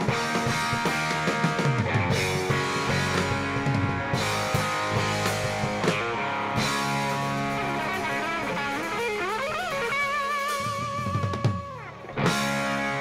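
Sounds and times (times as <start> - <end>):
drums: 0.0 - 13.0
electric guitar lead with vibrato: 0.0 - 13.0.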